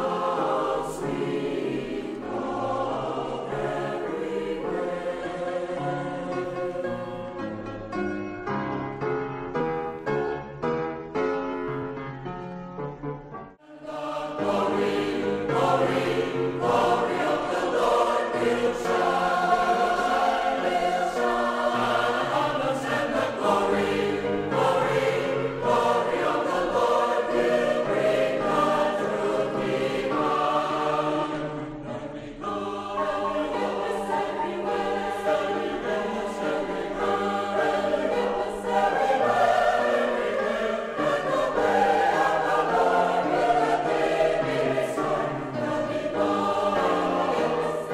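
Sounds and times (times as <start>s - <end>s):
choir singing held chords: 0.0s - 7.6s, 13.6s - 47.9s.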